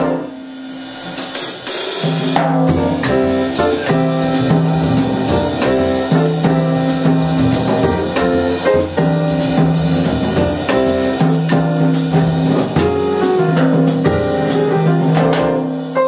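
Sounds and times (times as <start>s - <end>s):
grand piano chords: 0.0s - 0.6s, 2.4s - 16.0s
drum kit and cymbals: 0.0s - 16.0s
upright bass: 2.2s - 15.7s.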